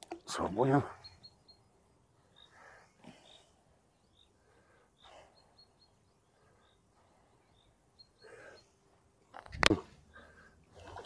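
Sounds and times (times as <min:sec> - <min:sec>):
small bird chirping: 0:00.0 - 0:09.9.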